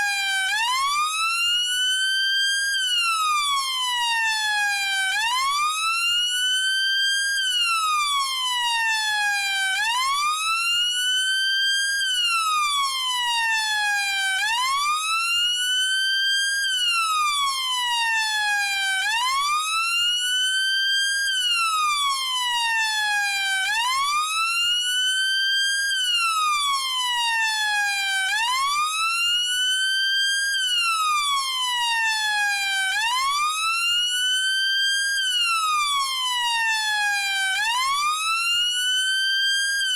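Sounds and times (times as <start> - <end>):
police siren wailing: 0.0 - 1.8, 2.4 - 39.9.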